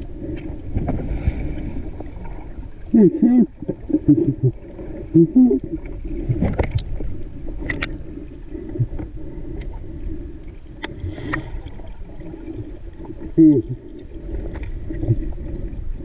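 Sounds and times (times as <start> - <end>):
underwater low rumble: 0.0 - 16.0
water gurgle: 0.0 - 16.0.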